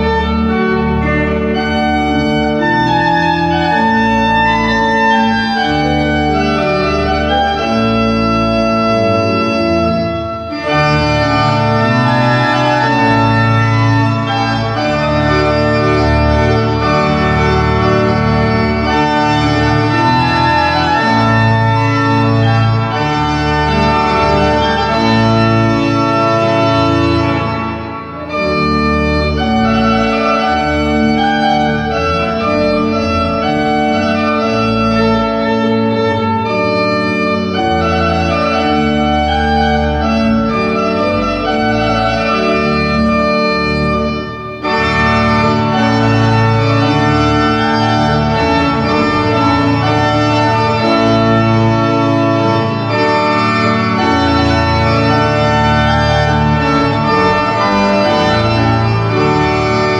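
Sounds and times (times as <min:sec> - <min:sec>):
organ playing chords: 0:00.0 - 0:59.9.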